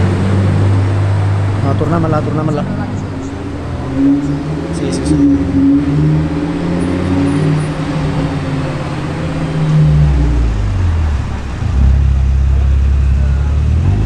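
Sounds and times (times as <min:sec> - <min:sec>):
car engine rumbling at low revs: 0:00.0 - 0:14.0.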